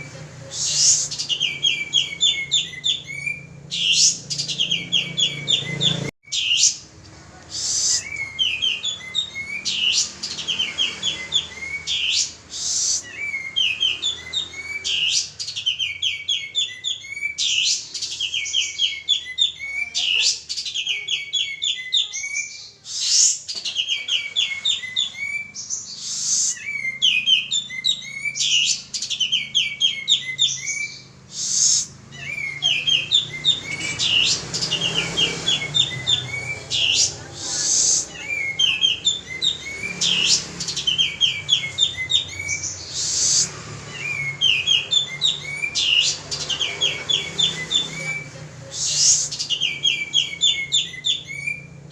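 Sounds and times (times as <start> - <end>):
bulbul singing: 0.0 - 51.9.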